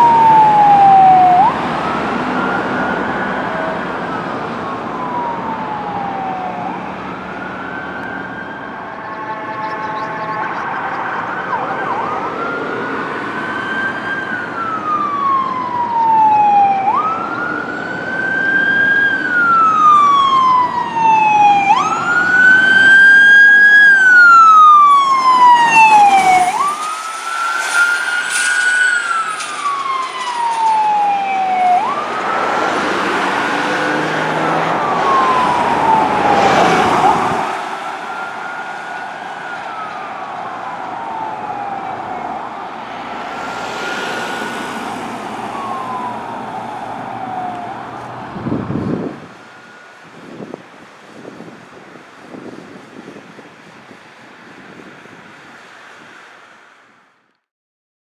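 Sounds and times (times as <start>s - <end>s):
siren wailing: 0.0s - 50.6s
engine and road noise: 0.0s - 57.5s.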